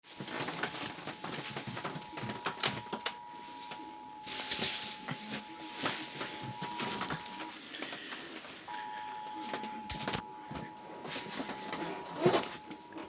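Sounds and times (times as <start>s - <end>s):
crackling static: 0.0s - 13.0s.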